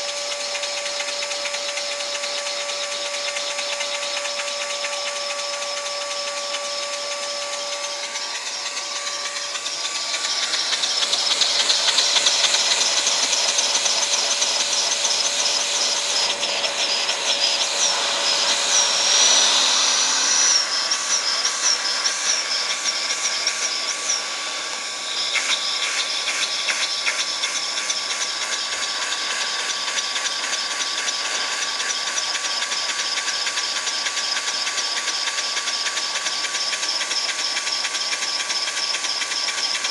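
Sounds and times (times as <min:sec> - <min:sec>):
rapid fine engine clatter: 0:00.0 - 0:39.9
vacuum cleaner running: 0:00.0 - 0:39.9.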